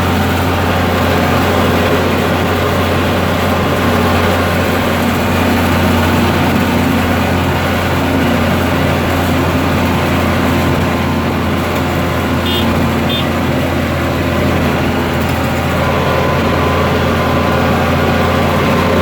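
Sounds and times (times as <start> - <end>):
tractor diesel engine drone: 0.0 - 19.0.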